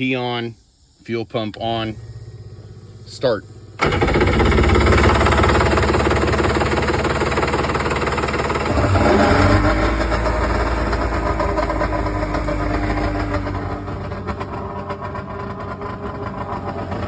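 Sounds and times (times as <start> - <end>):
jet ski engine running: 1.6 - 17.0.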